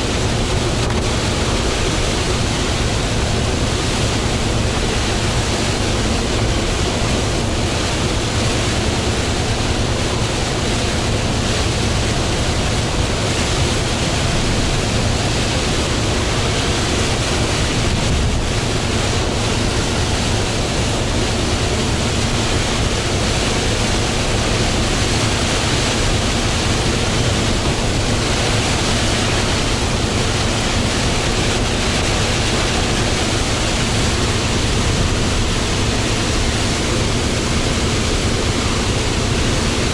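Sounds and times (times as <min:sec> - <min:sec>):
rain: 0:00.0 - 0:39.9
wind: 0:00.0 - 0:39.9.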